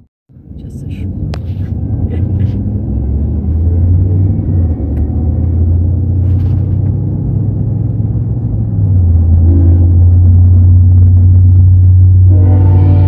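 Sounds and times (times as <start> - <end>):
car interior road and engine rumble: 0.3 - 13.0.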